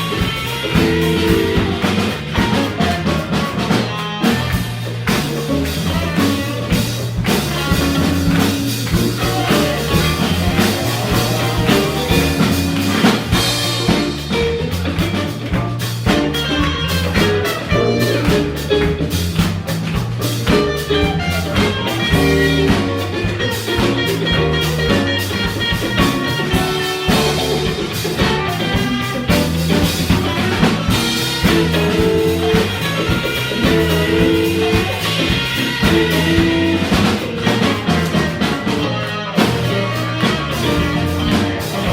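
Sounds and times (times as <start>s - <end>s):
drum kit groove: 0.0s - 41.9s
electric bass line: 0.0s - 41.9s
electric guitar: 0.0s - 41.9s
keyboards: 0.0s - 41.9s.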